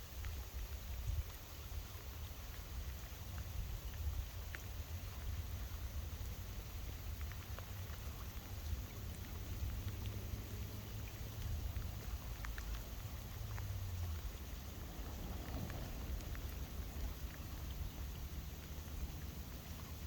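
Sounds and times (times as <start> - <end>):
rain hiss: 0.0 - 20.0
raindrop ticks: 0.0 - 20.0
wind rumbling on microphone: 0.0 - 20.0.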